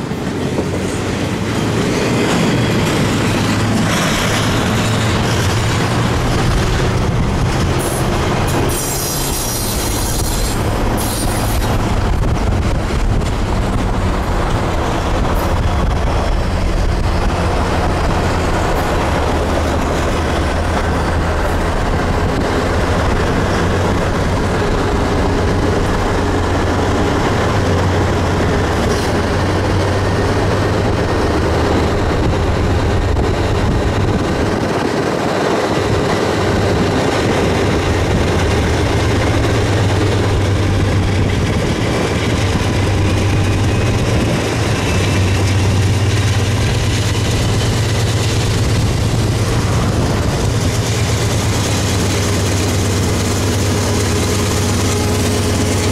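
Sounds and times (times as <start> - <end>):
locomotive engine drone: 0.0 - 55.9
train wheels rolling on rails: 0.0 - 55.9.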